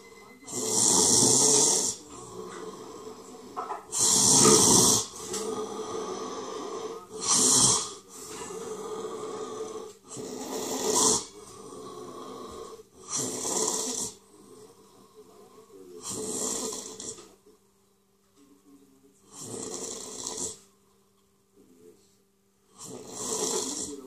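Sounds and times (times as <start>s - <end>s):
quiet breathing: 0.0s - 17.6s, 21.6s - 24.0s.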